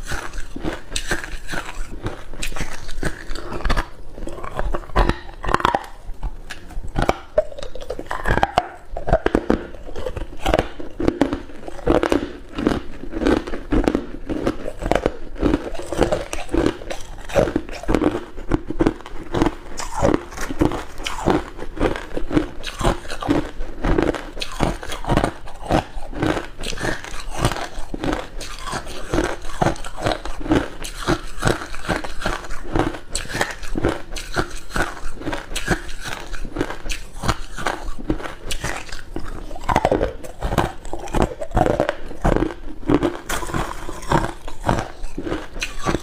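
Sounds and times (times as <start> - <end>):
ice cubes crunching: 0.0 - 46.0.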